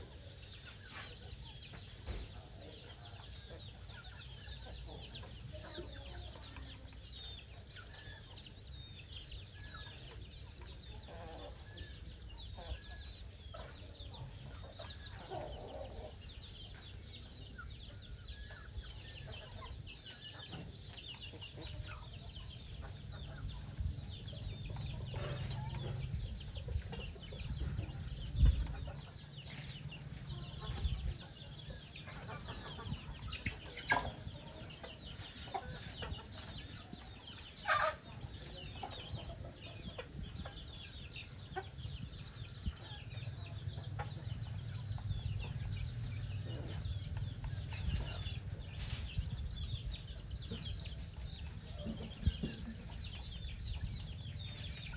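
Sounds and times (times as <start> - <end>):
chickens clucking: 0.0 - 54.9
chicks peeping: 0.0 - 54.9.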